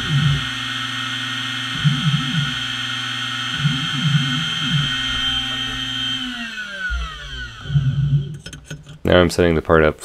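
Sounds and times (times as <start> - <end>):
stepper motors sweeping in pitch: 0.0 - 8.4
spindle whine and hum: 0.0 - 9.7.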